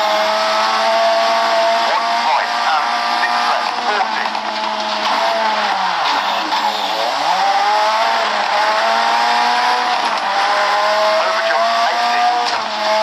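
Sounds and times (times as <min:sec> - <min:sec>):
racing car engine revving: 0:00.0 - 0:13.0.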